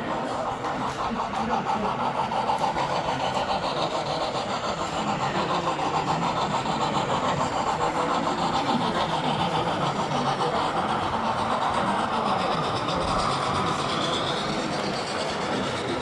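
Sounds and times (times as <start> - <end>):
model train running: 0.0 - 16.0.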